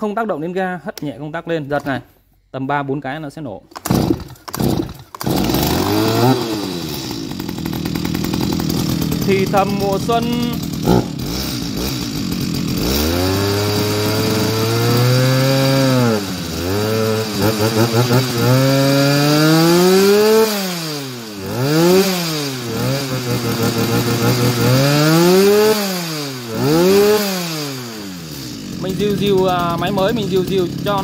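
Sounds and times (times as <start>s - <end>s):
chainsaw engine revving: 3.7s - 31.0s.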